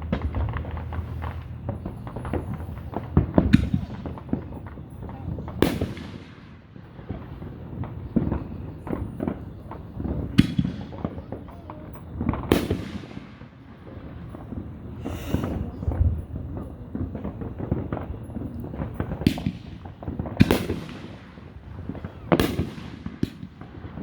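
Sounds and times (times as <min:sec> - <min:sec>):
fireworks crackling and booming: 0:00.0 - 0:24.0
sharp loud firework bangs: 0:00.0 - 0:24.0.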